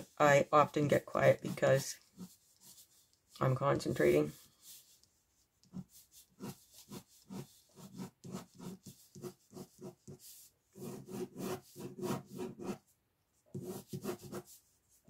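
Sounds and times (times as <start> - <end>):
pen scratching on paper: 0.0 - 12.9, 13.5 - 14.8.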